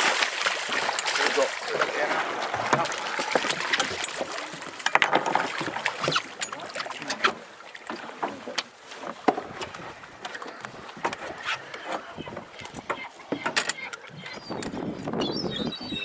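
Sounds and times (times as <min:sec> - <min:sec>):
sea noise: 0:00.0 - 0:16.0
wind: 0:00.0 - 0:16.0.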